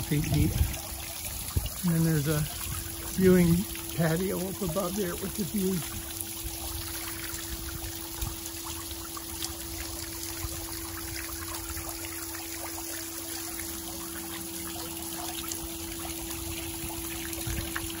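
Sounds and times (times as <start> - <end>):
steady low hum: 0.0 - 18.0
waterfall splashing into pool: 0.0 - 18.0.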